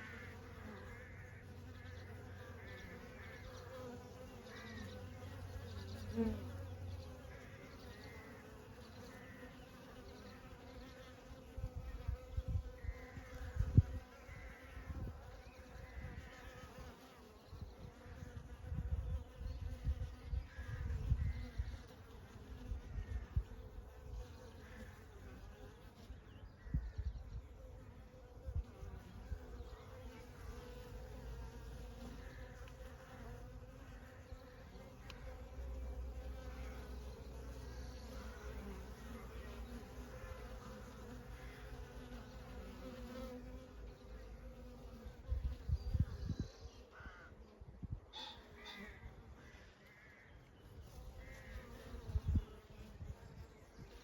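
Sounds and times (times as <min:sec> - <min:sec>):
bees buzzing: 0:00.0 - 0:47.4, 0:50.1 - 0:54.0.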